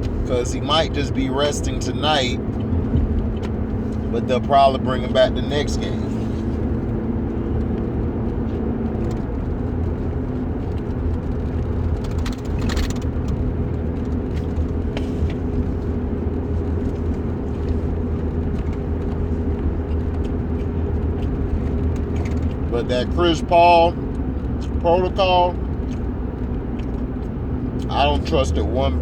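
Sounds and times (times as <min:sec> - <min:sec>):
motor vehicle rumble: 0:00.0 - 0:29.0.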